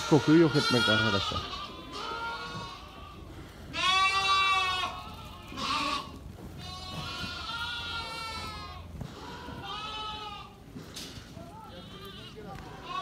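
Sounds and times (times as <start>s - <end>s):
sheep bleating: 0.0s - 10.6s, 11.5s - 13.0s.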